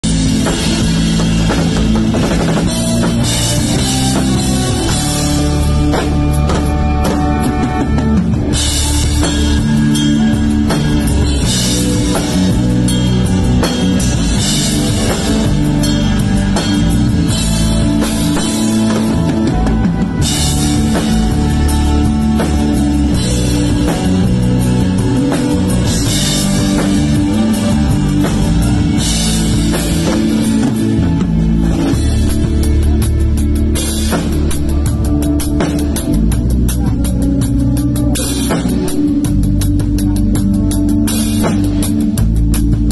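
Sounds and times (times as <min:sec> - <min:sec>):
drum kit playing: 0:00.0 - 0:42.9
live band playing pop-rock: 0:00.0 - 0:42.9.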